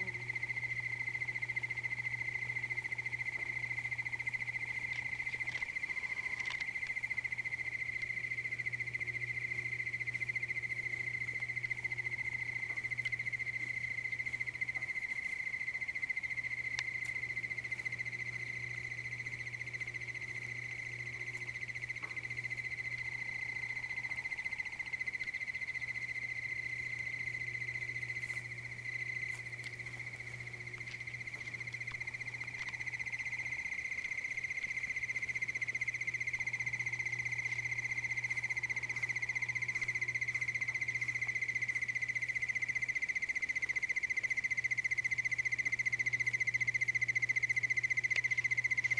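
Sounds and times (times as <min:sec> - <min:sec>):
insects trilling: 0:00.0 - 0:48.9
low steady hum: 0:00.0 - 0:48.9.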